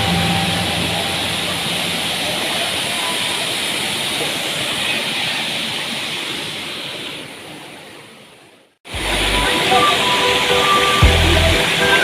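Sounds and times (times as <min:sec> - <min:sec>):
waterfall rushing: 0:00.0 - 0:08.1, 0:08.9 - 0:12.0.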